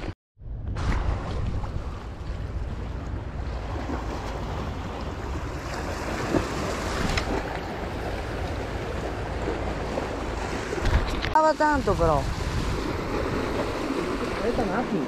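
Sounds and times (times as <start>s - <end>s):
wind buffeting microphone: 0.0s - 15.0s
sea waves: 0.7s - 15.0s.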